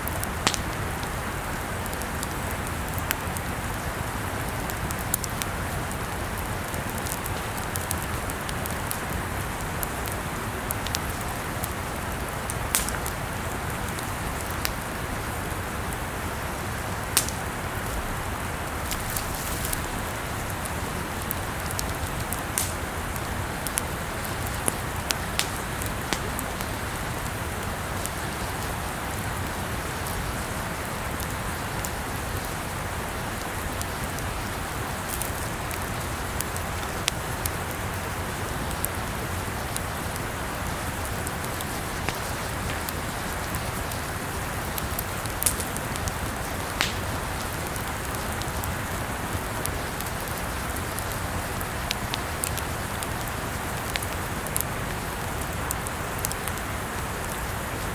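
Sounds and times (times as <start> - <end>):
campfire hissing: 0.0 - 57.9
fire crackling and popping: 0.0 - 57.9.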